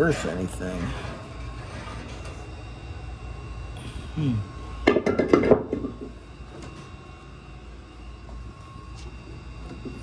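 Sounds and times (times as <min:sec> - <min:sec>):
faint constant hum: 0:00.0 - 0:10.0.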